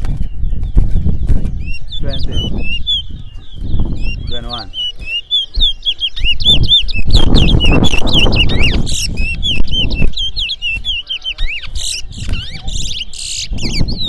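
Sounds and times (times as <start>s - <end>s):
finch singing whistles and chirps: 0.0s - 14.0s.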